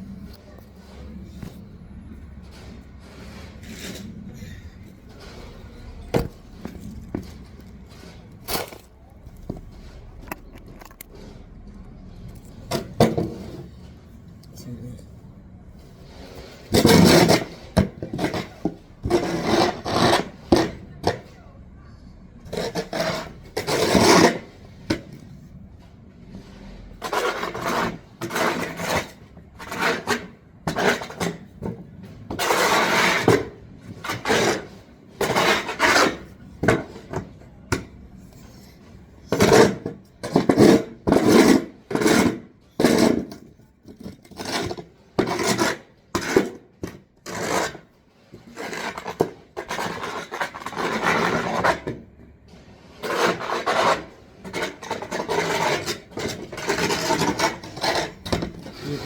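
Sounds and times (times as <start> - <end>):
shovel scraping over pavement: 0.0 - 15.0, 15.7 - 21.4, 22.4 - 59.0.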